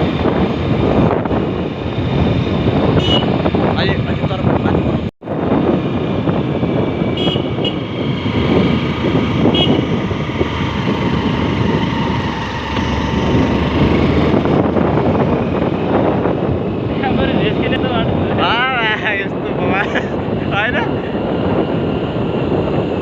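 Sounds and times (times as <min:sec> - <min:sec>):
vehicle road noise: 0:00.0 - 0:23.0
wind on microphone: 0:00.0 - 0:23.0.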